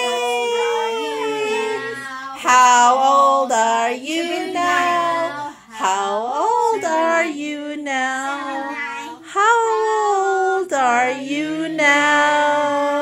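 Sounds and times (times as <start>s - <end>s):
child singing held notes: 0.0s - 13.0s.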